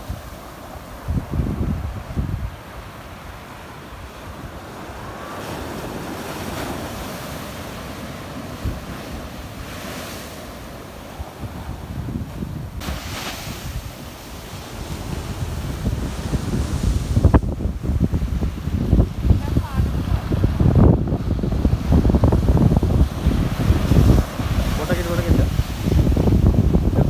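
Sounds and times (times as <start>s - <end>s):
waves breaking on shore: 0.0s - 27.0s
wind buffeting microphone: 0.0s - 27.0s.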